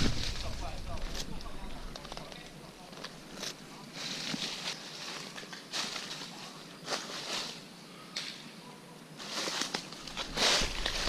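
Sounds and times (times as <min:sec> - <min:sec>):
rustling of leaves and brush: 0:00.0 - 0:11.0.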